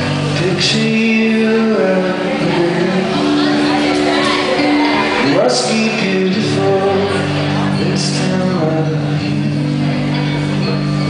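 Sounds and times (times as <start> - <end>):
electric guitar chords: 0.0 - 11.0
man singing: 0.0 - 11.0.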